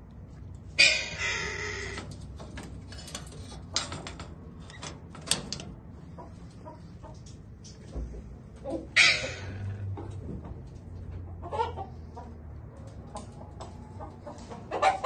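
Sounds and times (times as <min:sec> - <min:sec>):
caged birds calling: 0:00.5 - 0:15.0.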